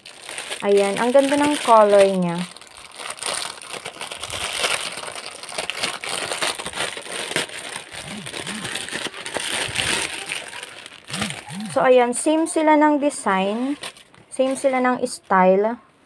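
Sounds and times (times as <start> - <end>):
plastic bag crinkling: 0.0 - 15.2.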